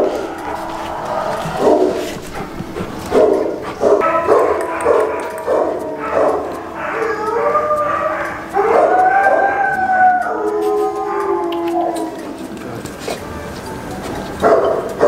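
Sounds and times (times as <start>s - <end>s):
dog howling calls: 0.0s - 12.9s.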